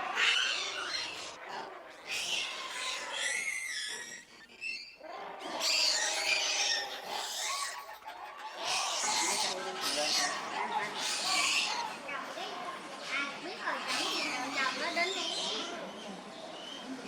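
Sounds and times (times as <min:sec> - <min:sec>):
monkeys squealing: 0:00.0 - 0:16.9.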